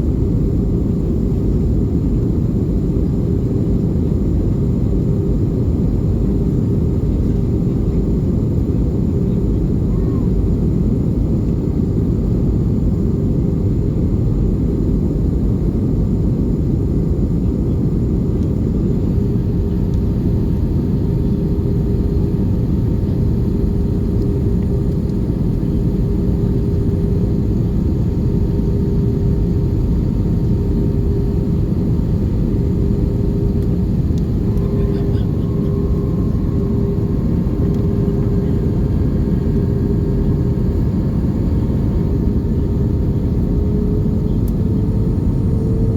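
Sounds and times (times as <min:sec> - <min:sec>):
aircraft cabin engine rumble: 0:00.0 - 0:45.9.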